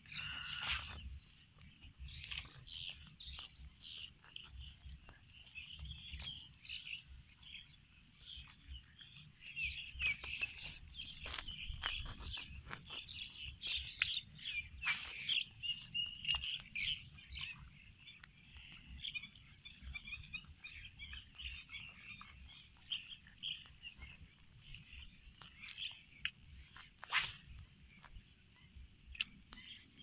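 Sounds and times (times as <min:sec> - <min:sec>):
birds chirping and chattering: 0:00.0 - 0:30.0.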